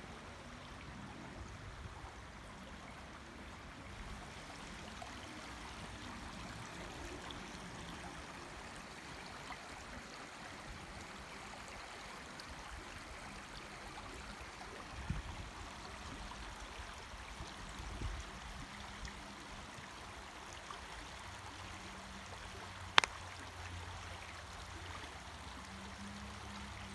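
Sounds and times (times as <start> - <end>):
creek flowing over stones: 0.0 - 26.9.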